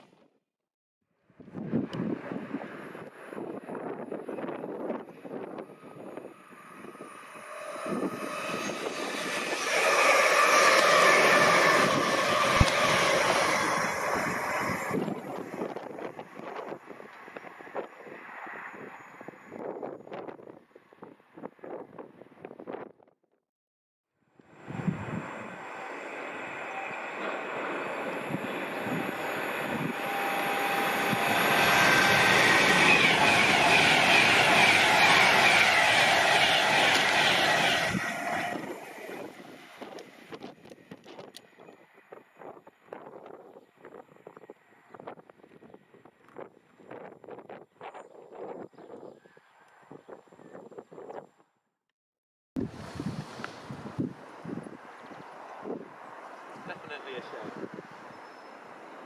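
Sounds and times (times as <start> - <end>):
train passing on rails: 1.5 - 22.6, 24.5 - 47.1, 52.6 - 59.0.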